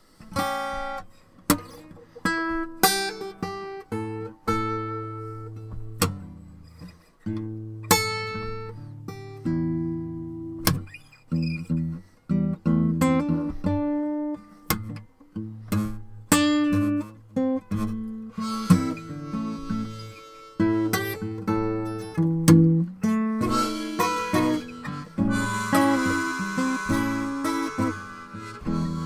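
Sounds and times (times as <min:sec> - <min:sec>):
acoustic guitar blues: 0:00.0 - 0:29.0.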